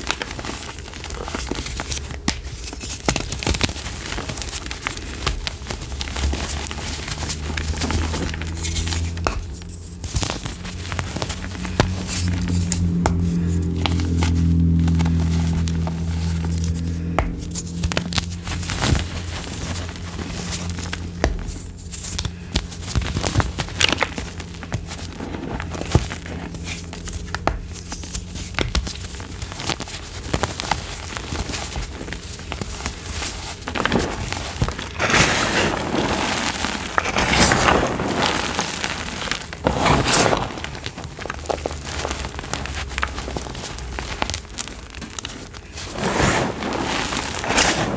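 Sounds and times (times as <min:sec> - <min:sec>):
chalk being crushed: 0:00.0 - 0:47.9.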